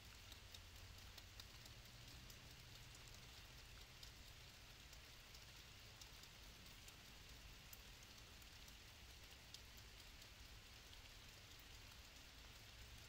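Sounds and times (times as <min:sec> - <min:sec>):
faint steady hiss: 0:00.0 - 0:13.0
faint ticks: 0:00.0 - 0:13.0.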